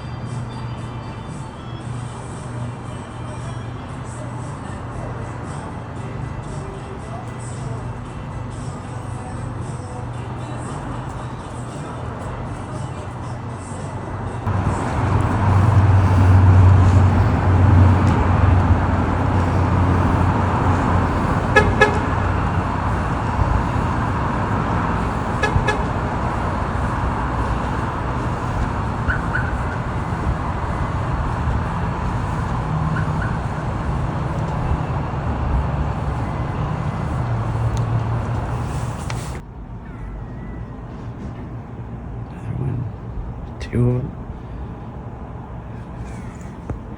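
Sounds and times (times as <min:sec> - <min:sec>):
rumble of vehicle noise: 0:00.0 - 0:46.9.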